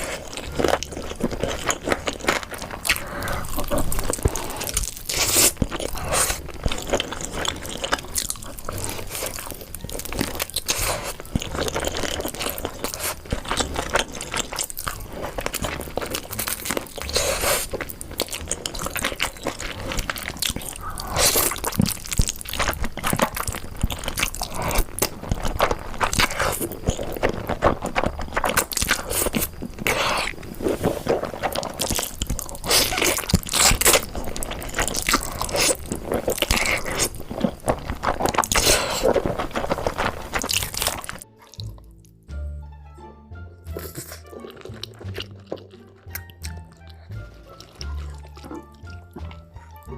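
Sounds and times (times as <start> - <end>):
person chewing crunchy food: 0.0 - 42.2, 43.7 - 49.9.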